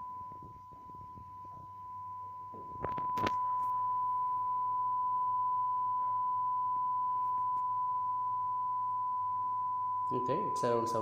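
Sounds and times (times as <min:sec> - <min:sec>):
steady pure test tone: 0:00.0 - 0:11.0.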